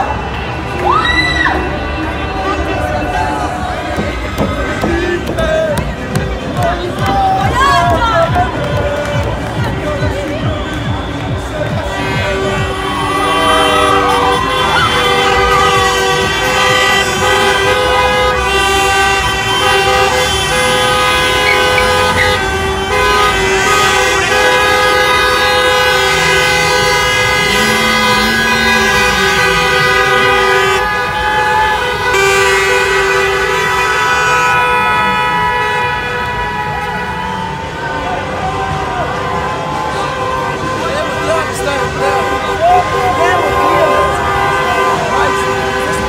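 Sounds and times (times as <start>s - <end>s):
car horns honking: 1.5s - 8.6s, 10.7s - 46.0s.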